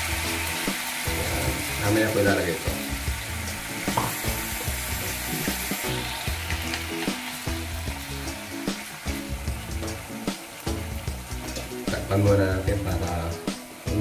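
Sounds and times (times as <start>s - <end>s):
background music: 0.0s - 14.0s
beef sizzling in frying pan: 0.0s - 14.0s.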